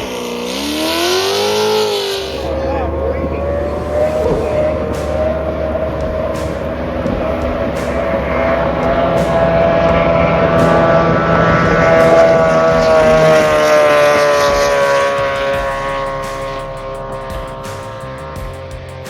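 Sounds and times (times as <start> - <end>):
race boat engine passing: 0.0 - 19.0.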